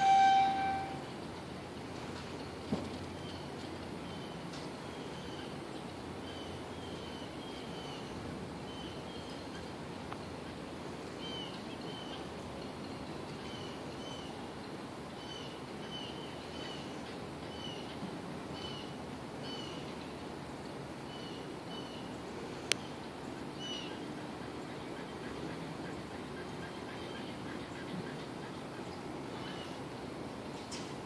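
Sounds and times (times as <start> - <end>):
steady background noise: 0.0 - 31.0.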